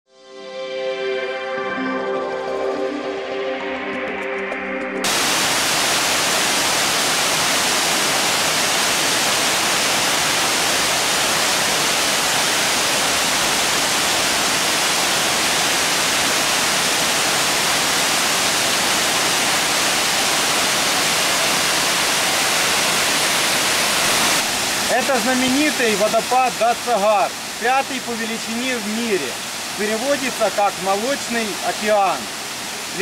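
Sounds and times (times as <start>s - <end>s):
waterfall rushing: 5.0s - 33.0s.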